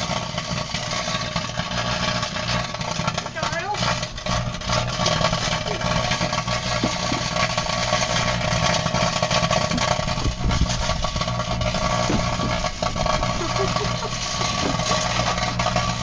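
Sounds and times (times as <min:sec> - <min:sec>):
crackles of arcing foil: 0:00.0 - 0:16.0
microwave oven humming: 0:00.0 - 0:16.0.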